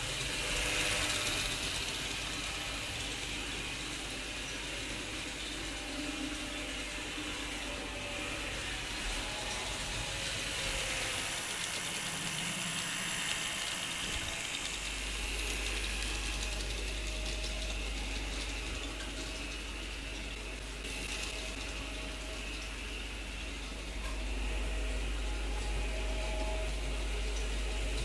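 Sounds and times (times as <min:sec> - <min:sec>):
model wheels on rails: 0:00.0 - 0:28.0
small motor and gears whirring: 0:00.0 - 0:28.0.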